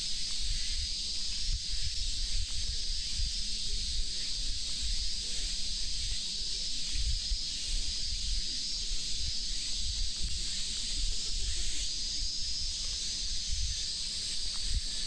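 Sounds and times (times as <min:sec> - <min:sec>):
cicadas sizzling: 0:00.0 - 0:15.0.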